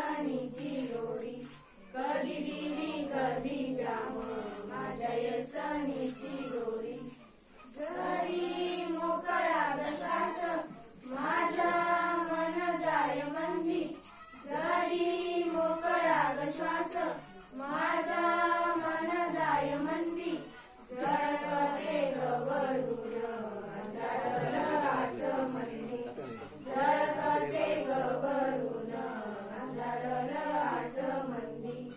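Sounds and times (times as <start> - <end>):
children singing together: 0.0 - 31.9.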